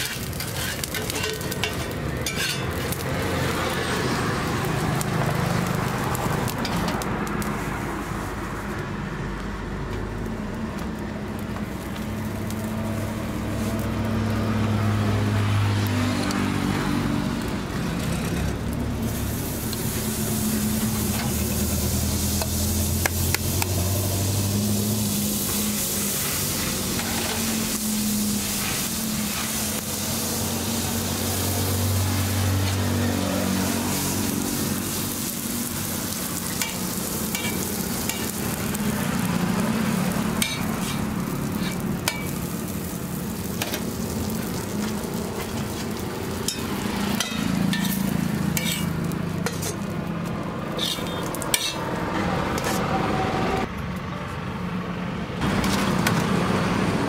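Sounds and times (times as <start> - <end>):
food sizzling on a griddle: 0.0 - 51.8
traffic hum: 0.0 - 57.0.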